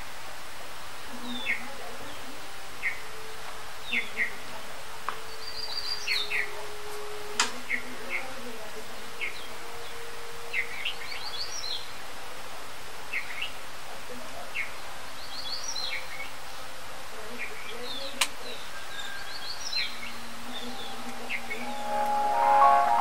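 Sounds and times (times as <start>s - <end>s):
steady hiss: 0.0s - 23.0s
small birds chirping: 0.8s - 23.0s.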